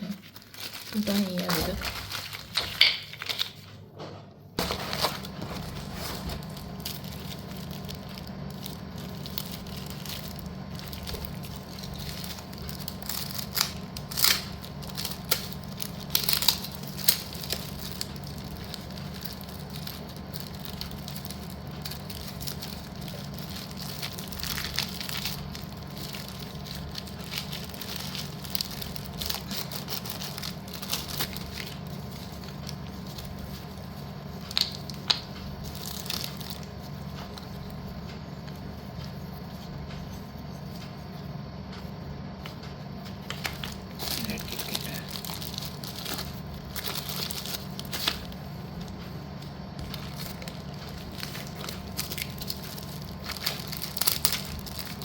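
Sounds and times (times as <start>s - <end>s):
pencils and plastic packets handled: 0.0s - 3.9s, 4.6s - 55.0s
low hum: 0.0s - 55.0s.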